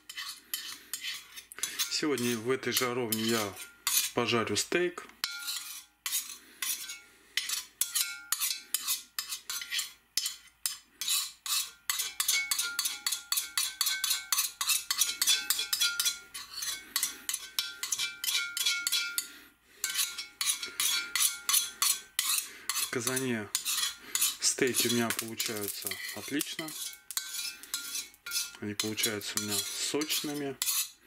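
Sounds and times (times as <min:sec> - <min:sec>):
metal spoon scraping a pot: 0:00.0 - 0:04.3, 0:05.2 - 0:31.0.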